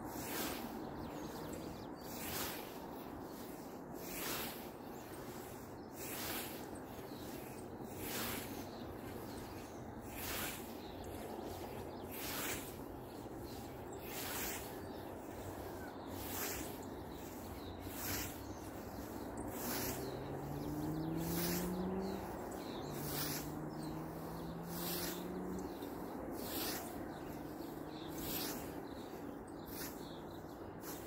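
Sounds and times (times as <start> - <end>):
scythe swishing through grass: 0.1 - 31.0.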